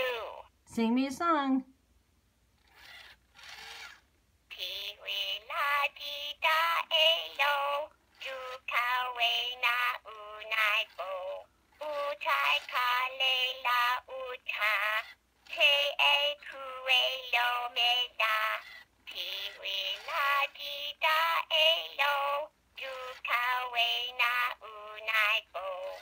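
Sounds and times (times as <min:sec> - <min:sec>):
toy singing in electronic voice: 0:00.0 - 0:00.5, 0:04.5 - 0:26.0.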